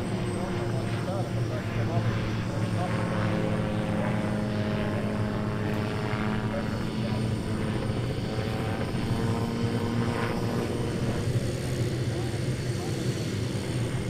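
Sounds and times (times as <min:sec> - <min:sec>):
autogyro engine drone: 0:00.0 - 0:14.0.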